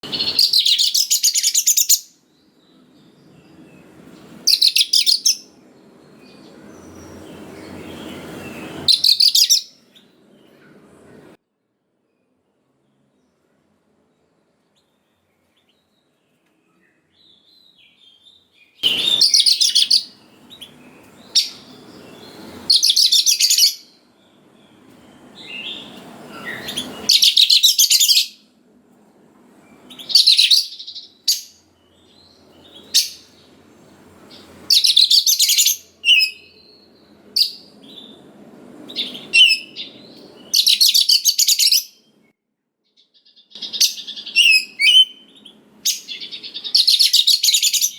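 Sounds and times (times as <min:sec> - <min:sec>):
songbird singing: 0:00.0 - 0:10.8, 0:14.1 - 0:28.6, 0:29.6 - 0:47.9.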